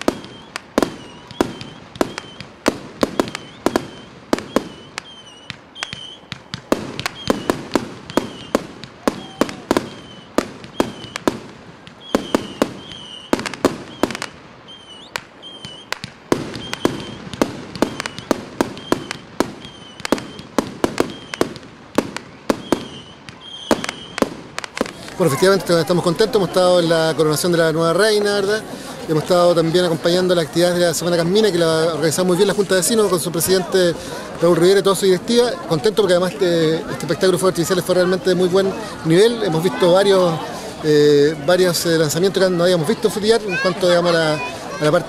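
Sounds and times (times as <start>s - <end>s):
fireworks banging: 0.0s - 45.0s
high-pitched firework tones: 0.0s - 45.0s.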